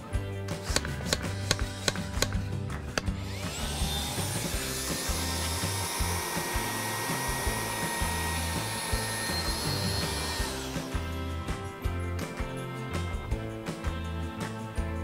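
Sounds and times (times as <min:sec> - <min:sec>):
background music with steady beat: 0:00.0 - 0:15.0
electric motor whining: 0:00.6 - 0:14.8.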